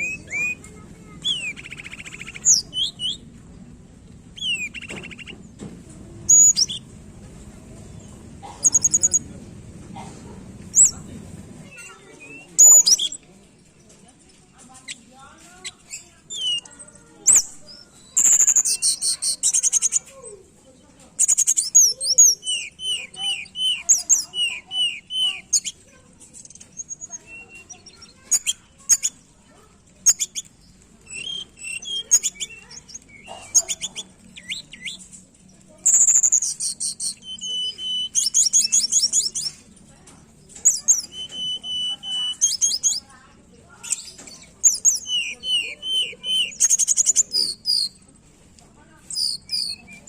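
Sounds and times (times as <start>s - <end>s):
bird trills and chatters: 0.0s - 50.0s.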